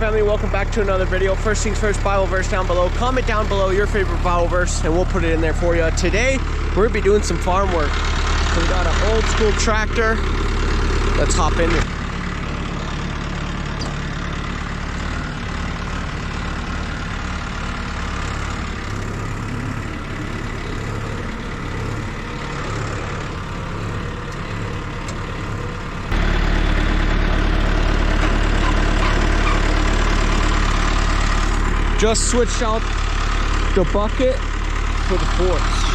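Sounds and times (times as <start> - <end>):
old tractor engine idling: 0.0 - 35.9.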